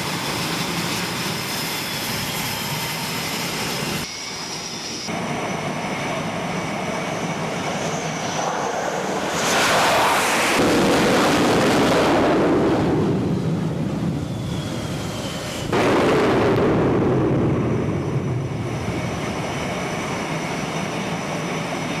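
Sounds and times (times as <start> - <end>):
jet aircraft rushing: 0.0 - 22.0.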